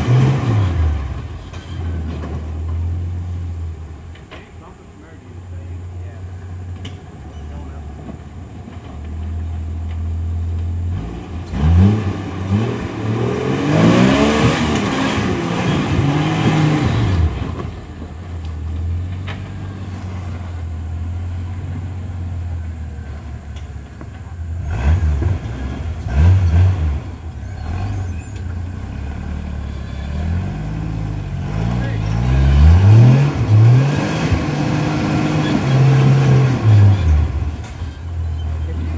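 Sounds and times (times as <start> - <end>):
buggy engine idling and revving: 0.0 - 38.9.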